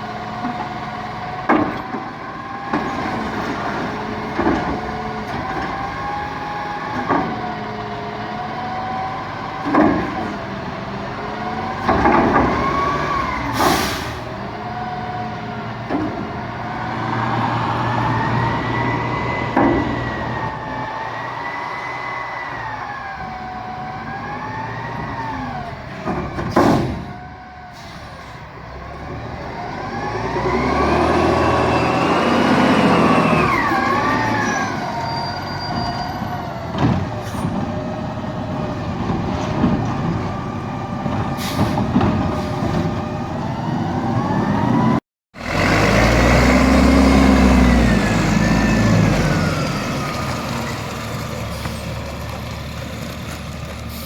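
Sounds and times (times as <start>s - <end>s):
garbage truck engine revving: 0.0s - 27.2s, 28.4s - 54.0s.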